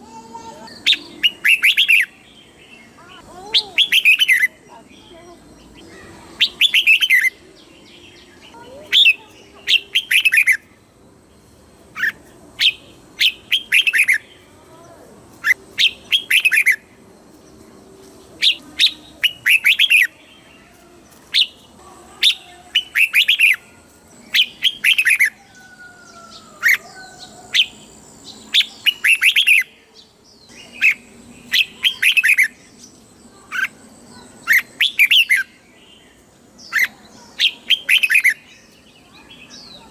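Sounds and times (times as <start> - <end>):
bulbul singing: 0.0 - 17.6, 18.4 - 39.9.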